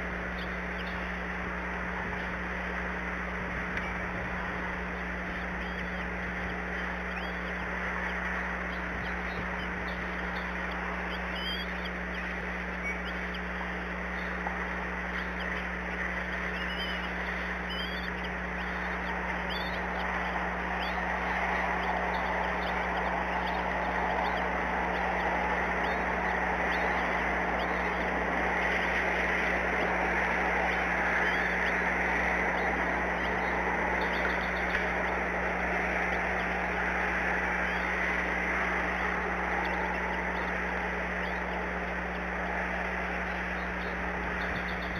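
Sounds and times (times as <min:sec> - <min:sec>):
low hum: 0:00.0 - 0:44.9
steady hiss: 0:00.0 - 0:44.9
short high bird calls: 0:05.3 - 0:44.9.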